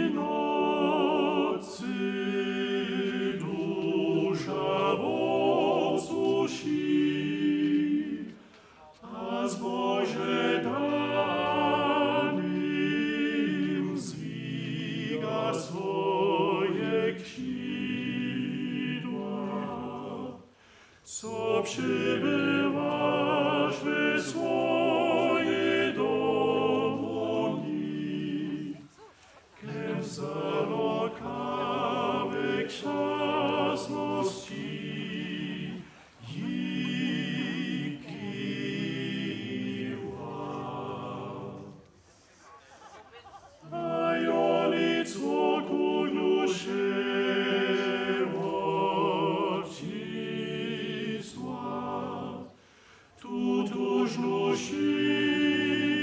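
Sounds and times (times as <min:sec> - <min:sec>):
male vocal quartet singing a cappella: 0:00.0 - 0:28.9, 0:29.6 - 0:41.8, 0:43.6 - 0:56.0.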